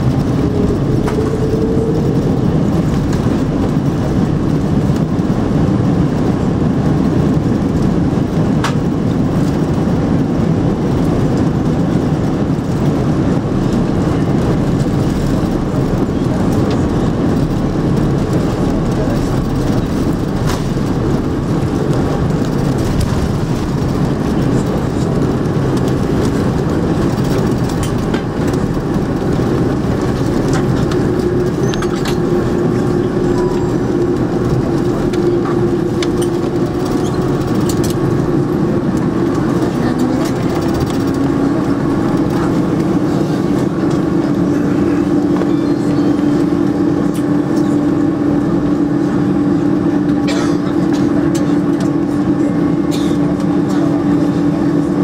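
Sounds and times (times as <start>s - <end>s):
engines and wheels rumbling: 0.0s - 55.0s
steady hum: 0.0s - 55.0s.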